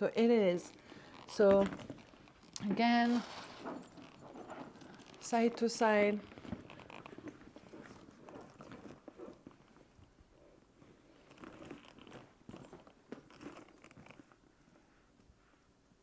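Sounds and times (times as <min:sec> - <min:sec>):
handbags rustling and clicking: 0:00.0 - 0:15.2.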